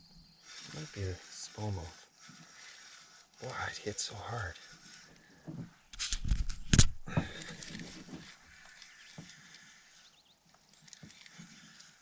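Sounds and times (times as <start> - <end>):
faint clicks and rustling: 0.4 - 12.0.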